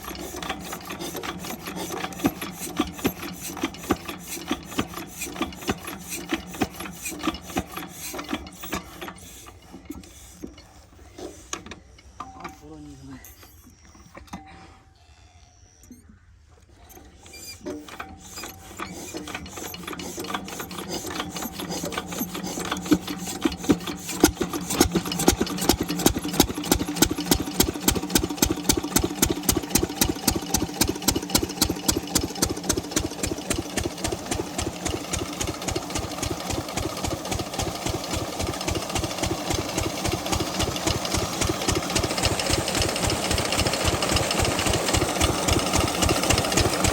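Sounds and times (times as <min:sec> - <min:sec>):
diesel pump engine knocking: 0:00.0 - 0:09.4, 0:17.9 - 0:46.9.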